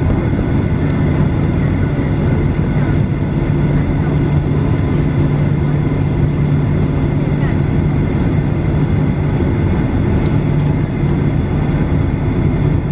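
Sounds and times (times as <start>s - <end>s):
jet engines idling hum: 0.0s - 12.9s.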